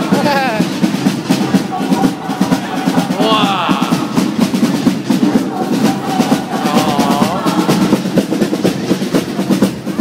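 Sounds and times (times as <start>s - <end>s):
bass drum beats: 0.0s - 10.0s
snare drums rapid strokes: 0.0s - 10.0s.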